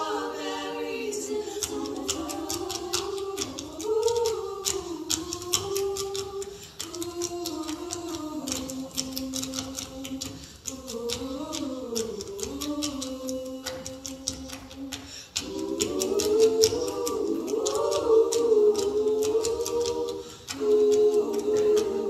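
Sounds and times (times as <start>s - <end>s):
choir singing a cappella: 0.0s - 22.0s.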